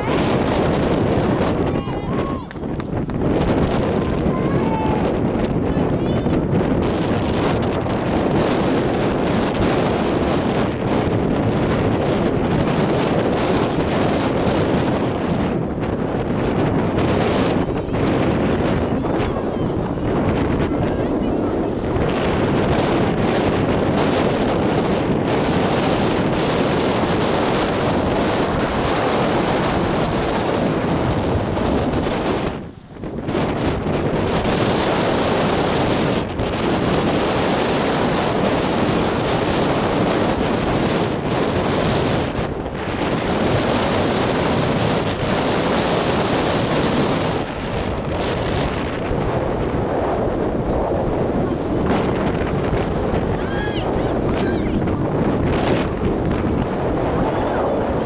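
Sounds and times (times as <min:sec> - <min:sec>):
wind blowing across microphone: 0:00.0 - 0:58.0.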